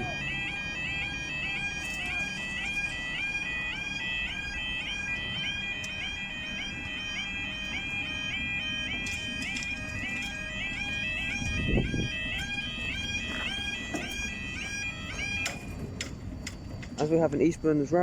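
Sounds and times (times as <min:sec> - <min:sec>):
level crossing alarm warbling: 0:00.0 - 0:18.0.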